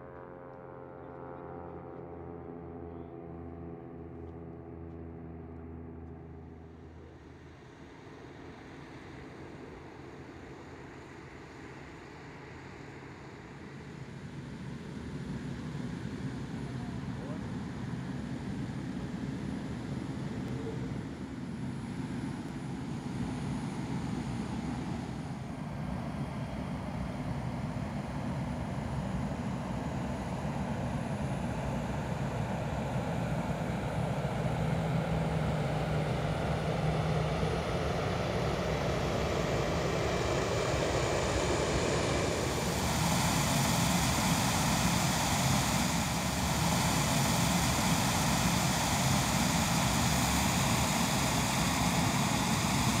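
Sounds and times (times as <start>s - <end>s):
aircraft engine drone: 0.0s - 53.0s.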